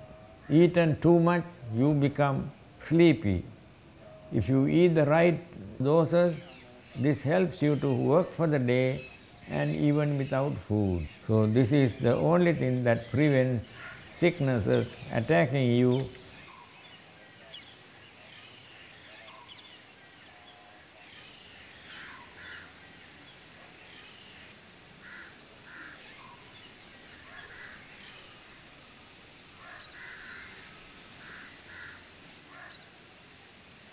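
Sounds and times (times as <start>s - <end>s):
harsh bird calls: 0.0s - 28.5s, 29.5s - 32.9s
faint bird chirping: 0.0s - 33.6s.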